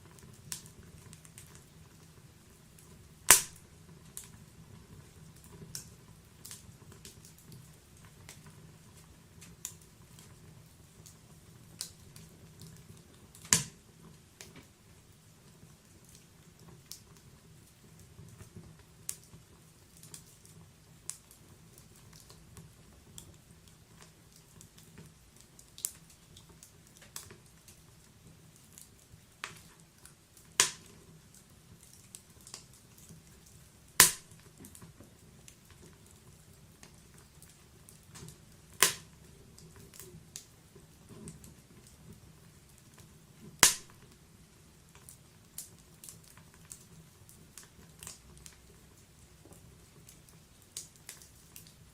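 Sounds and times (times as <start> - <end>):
fire low rumble: 0.0 - 51.9
logs crackling and popping: 0.0 - 51.9.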